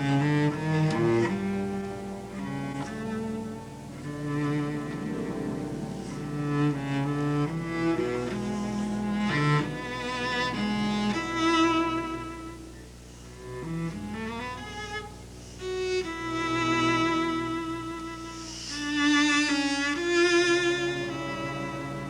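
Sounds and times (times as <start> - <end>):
bowed strings accompanying: 0.0 - 22.0
cello playing slow solo: 0.0 - 22.0.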